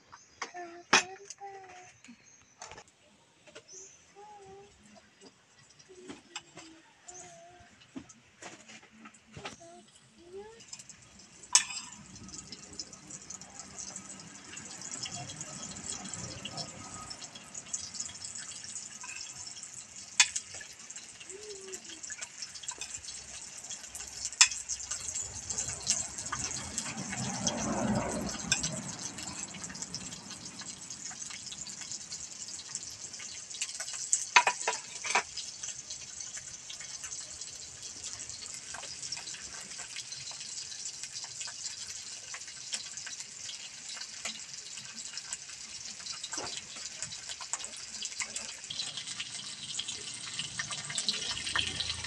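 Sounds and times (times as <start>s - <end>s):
oil popping: 7.9s - 52.0s
fish sizzling in oil: 8.0s - 52.0s.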